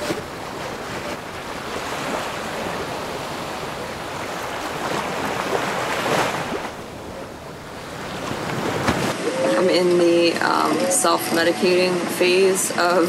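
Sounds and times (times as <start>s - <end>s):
wave washing by: 0.0s - 10.5s
sea splashing along boat hull: 0.0s - 13.0s.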